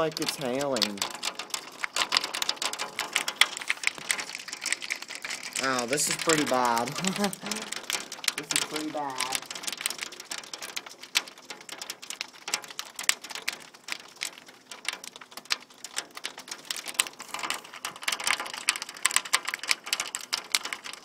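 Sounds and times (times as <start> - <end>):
rain and hail on hard surface: 0.0 - 21.0.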